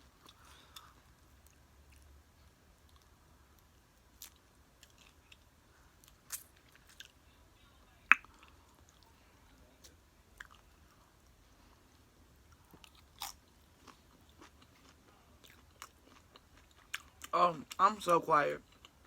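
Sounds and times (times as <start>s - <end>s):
quiet chewing: 0.0s - 7.2s, 8.1s - 17.8s.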